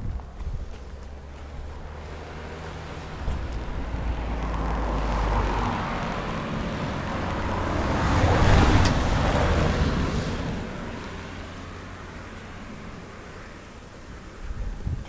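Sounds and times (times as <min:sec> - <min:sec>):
wind rumble on microphone: 0:00.0 - 0:11.2, 0:14.1 - 0:15.0
vehicle passing on road: 0:00.0 - 0:15.0.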